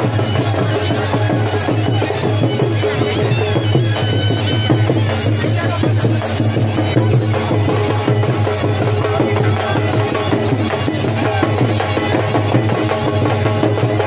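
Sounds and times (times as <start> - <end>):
rapid folk drumming: 0.0 - 14.0.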